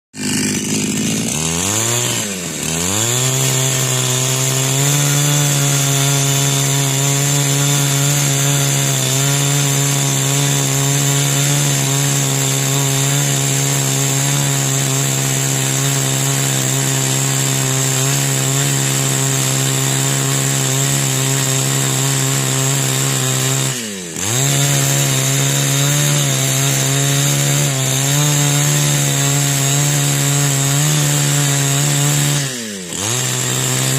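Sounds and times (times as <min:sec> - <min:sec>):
chainsaw running at high revs: 0:00.2 - 0:33.9.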